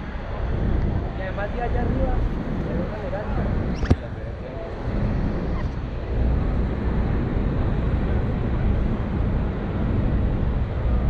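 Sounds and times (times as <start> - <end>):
boat rumbling: 0.0 - 11.0
wind noise on microphone: 0.0 - 11.0.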